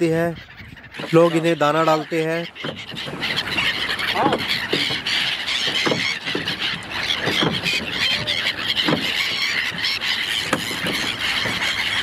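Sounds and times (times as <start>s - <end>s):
flock of gulls calling: 0.0s - 12.0s.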